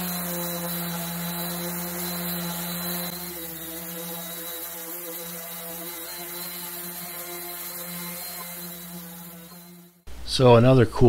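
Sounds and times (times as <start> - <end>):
orbital sander sanding wood: 0.0 - 10.0.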